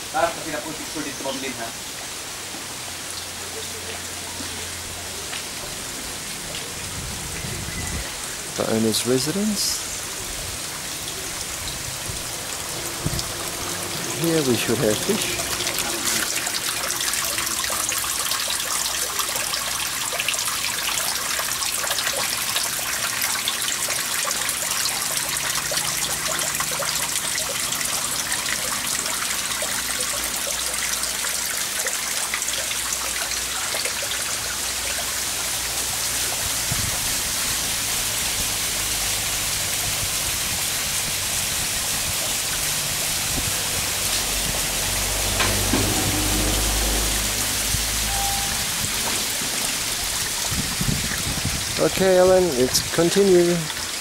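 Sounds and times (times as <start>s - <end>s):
water trickling into pond: 0.0s - 54.0s.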